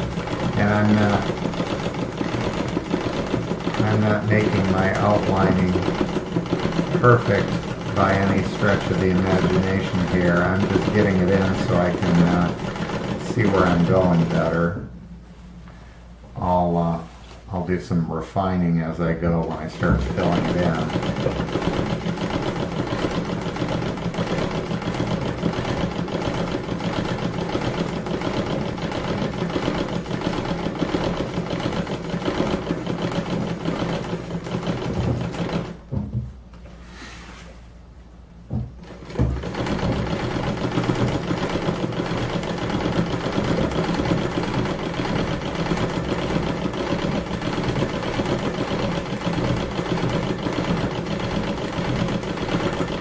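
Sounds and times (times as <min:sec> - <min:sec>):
sewing machine running: 0:00.0 - 0:14.8, 0:19.4 - 0:36.0, 0:38.8 - 0:53.0.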